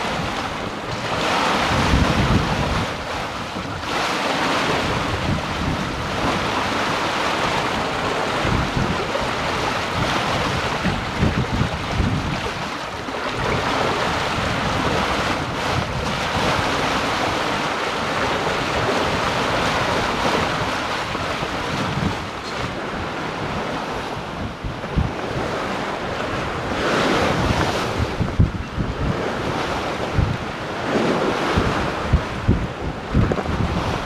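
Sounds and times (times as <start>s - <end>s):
water rushing along hull: 0.0s - 34.0s
wind buffeting microphone: 0.0s - 34.0s.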